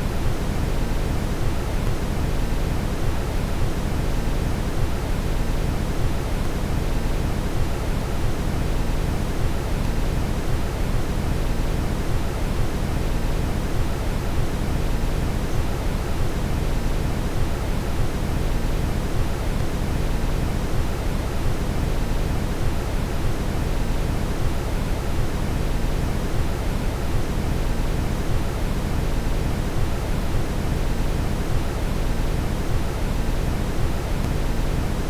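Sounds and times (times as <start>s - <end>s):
brown noise hiss: 0.0s - 35.0s.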